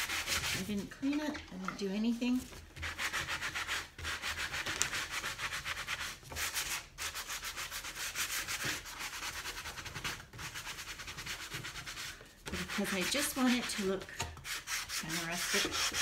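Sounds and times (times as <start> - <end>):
sanding sponge scrubbing wood: 0.0 - 0.8, 2.8 - 16.0.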